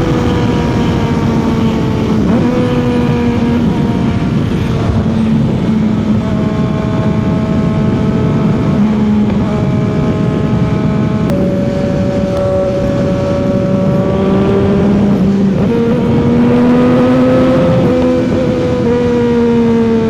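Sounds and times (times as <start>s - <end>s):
motorcycle engine cruising: 0.0s - 20.0s
wind and road noise: 0.0s - 20.0s.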